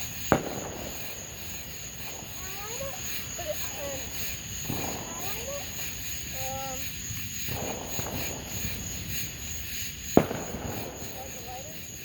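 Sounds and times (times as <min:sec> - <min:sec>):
faint distant voices: 0:00.0 - 0:12.0
insects chirring: 0:00.0 - 0:12.0.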